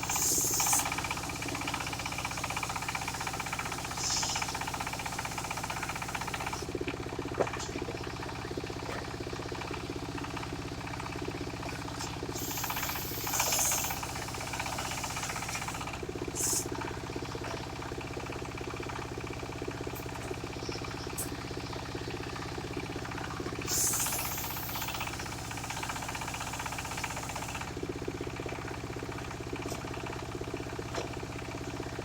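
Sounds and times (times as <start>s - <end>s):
sawmill engine pulsing: 0.0s - 32.0s.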